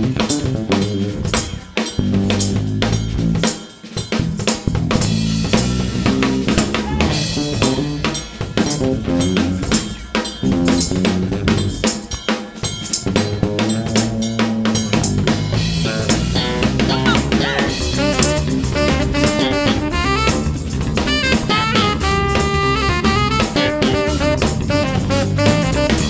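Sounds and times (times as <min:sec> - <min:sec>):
drum kit groove with rim shots: 0:00.0 - 0:26.0
soul band playing: 0:00.0 - 0:26.0.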